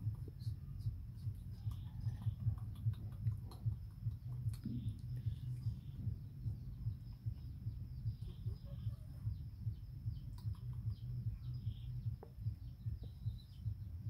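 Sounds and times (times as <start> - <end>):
low uneven rumble: 0.0 - 14.0.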